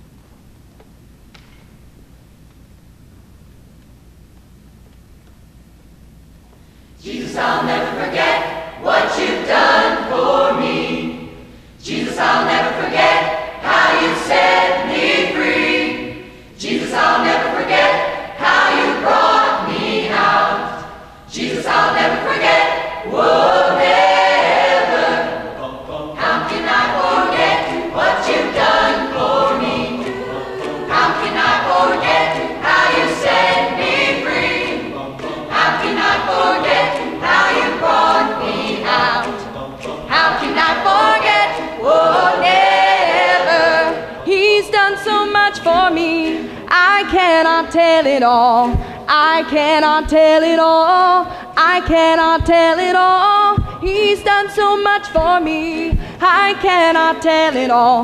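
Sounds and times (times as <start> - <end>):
mixed choir singing: 7.0 - 58.0.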